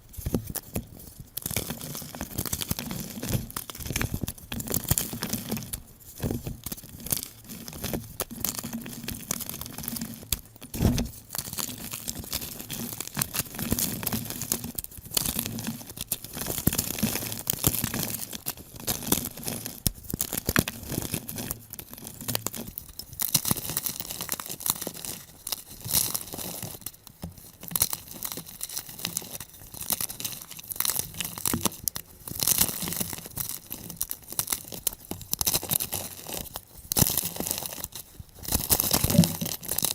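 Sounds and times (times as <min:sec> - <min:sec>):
chalk crushing and crumbling: 0:00.1 - 0:39.9.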